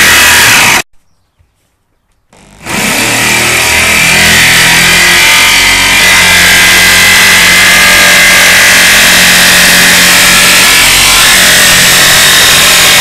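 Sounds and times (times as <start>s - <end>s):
electric jigsaw cutting: 0.0s - 0.8s, 2.4s - 13.0s.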